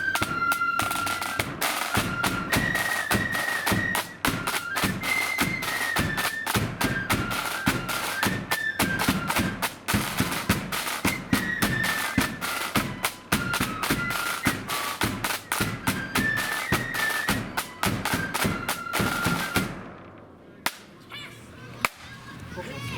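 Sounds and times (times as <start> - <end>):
shrill flute melody: 0.0 - 19.9
snare and bass drum beats: 0.0 - 20.0.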